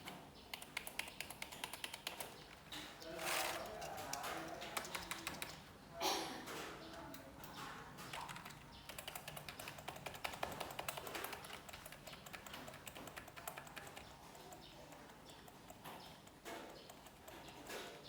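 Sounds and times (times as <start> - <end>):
computer keyboard typing: 0.0 - 5.7, 7.4 - 18.0.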